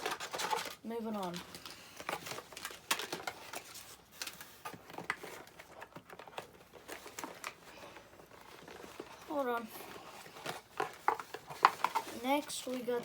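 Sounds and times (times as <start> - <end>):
packaging clicks and rustles: 0.0 - 13.0.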